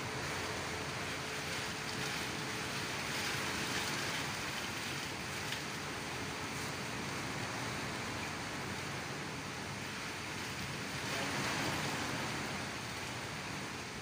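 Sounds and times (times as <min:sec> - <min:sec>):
rushing downpour: 0:00.0 - 0:14.0
wind gusts: 0:00.0 - 0:14.0.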